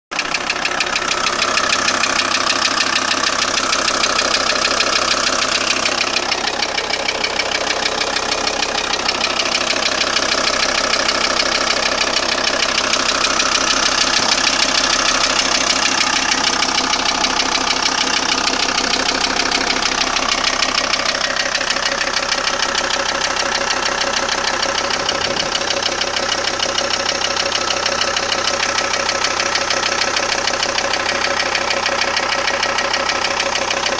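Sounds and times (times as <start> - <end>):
diesel engine running with rattle: 0.1 - 33.9.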